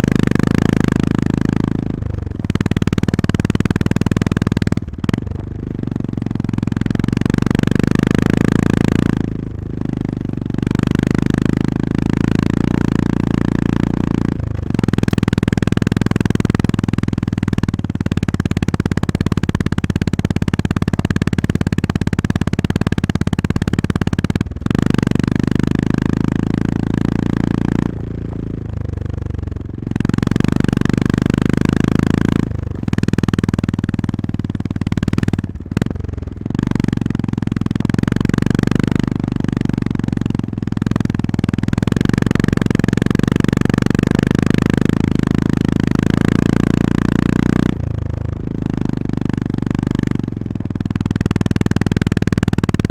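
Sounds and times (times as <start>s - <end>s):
motorcycle engine running: 0.0s - 52.9s
wind: 0.0s - 52.9s.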